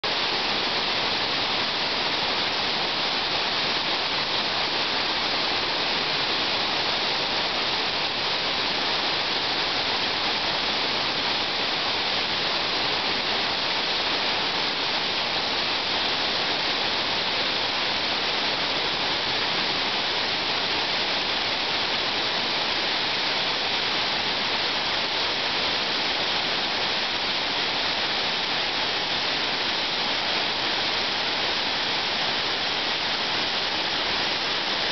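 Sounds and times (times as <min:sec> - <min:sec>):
water rushing down spillway: 0:00.0 - 0:34.9.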